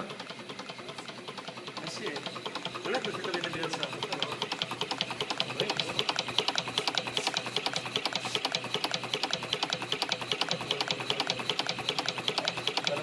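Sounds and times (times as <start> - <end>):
engine mechanical clatter: 0.0 - 13.0.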